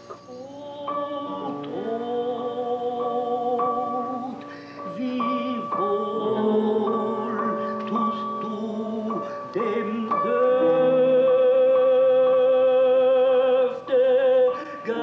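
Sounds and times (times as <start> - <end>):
man singing with vibrato: 0.0 - 15.0
piano: 0.0 - 15.0.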